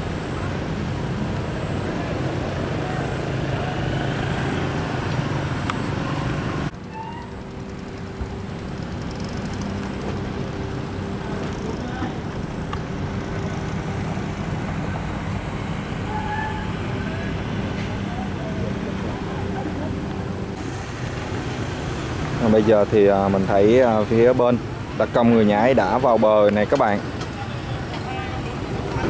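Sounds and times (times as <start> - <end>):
engine running: 0.0 - 29.0
outdoor background noise: 0.0 - 29.0.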